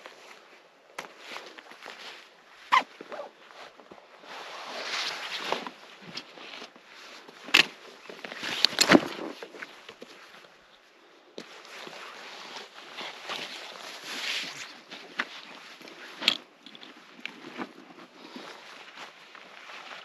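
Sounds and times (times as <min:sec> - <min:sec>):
nylon fabric rustling and scraping: 0:00.0 - 0:10.5, 0:11.5 - 0:20.0.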